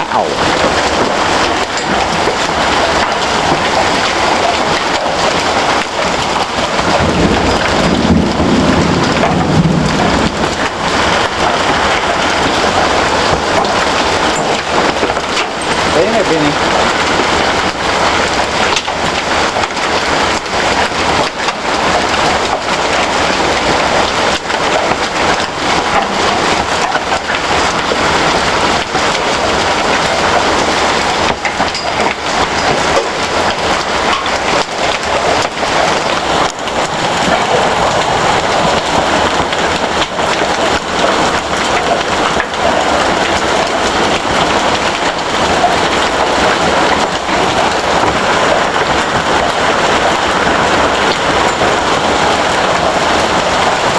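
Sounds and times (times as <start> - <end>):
hail and rain pelting down: 0.0 - 53.9.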